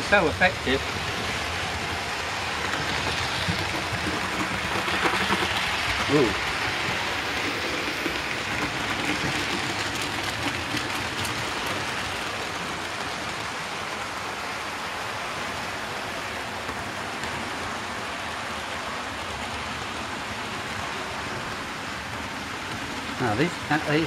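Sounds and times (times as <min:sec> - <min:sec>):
model trains whirring on rails: 0:00.0 - 0:24.0.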